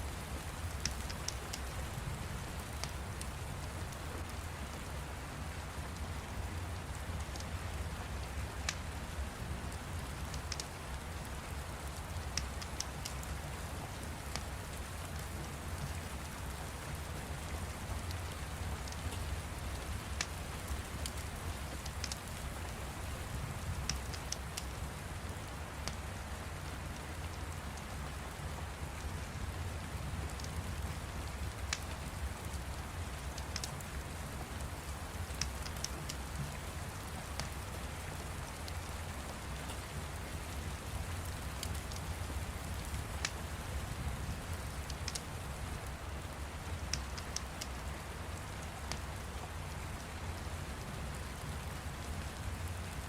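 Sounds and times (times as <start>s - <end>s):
fire crackling: 0.0s - 4.8s, 6.8s - 49.8s
steady rain: 0.0s - 53.0s.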